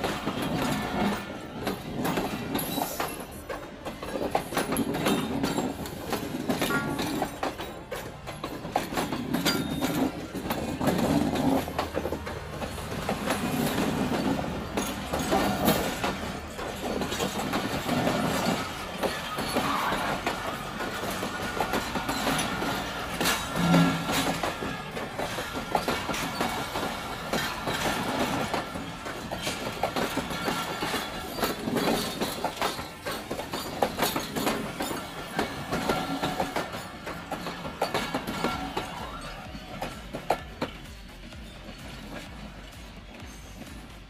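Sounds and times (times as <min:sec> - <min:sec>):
train rumble: 0:00.0 - 0:44.0
train wheels clacking over rail joints: 0:00.0 - 0:44.0.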